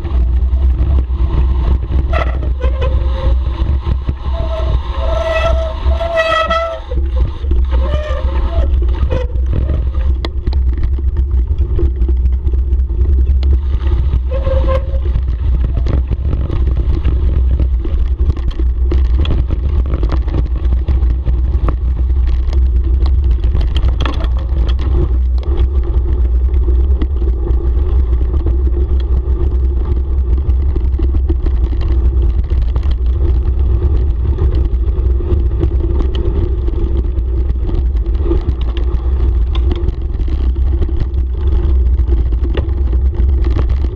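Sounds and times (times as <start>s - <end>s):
bike clicks and rattles: 0.0s - 43.9s
tyres rumbling on dirt: 0.0s - 43.9s
wind buffeting microphone: 0.0s - 43.9s.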